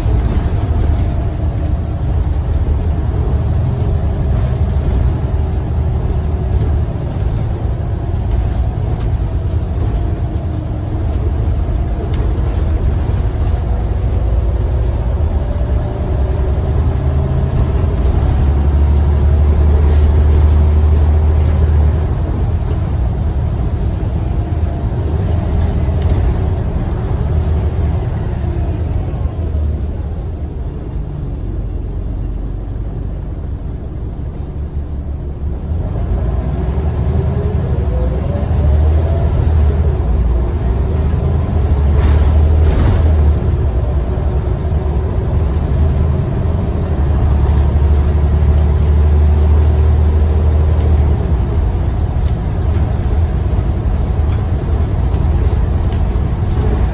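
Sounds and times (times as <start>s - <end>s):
bus diesel engine rumbling: 0.0s - 56.9s.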